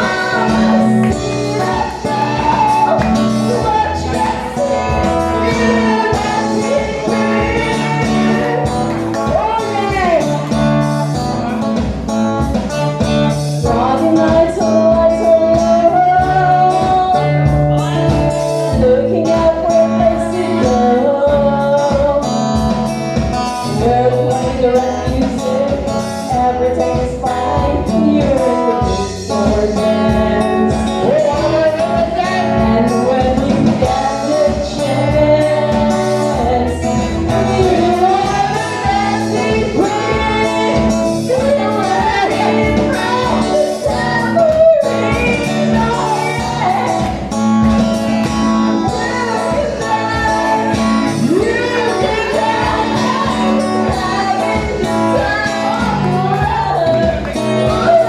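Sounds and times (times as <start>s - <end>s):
steady drum beat: 0.0s - 20.9s, 27.0s - 58.0s
guitar: 0.0s - 58.0s
person singing: 0.0s - 58.0s.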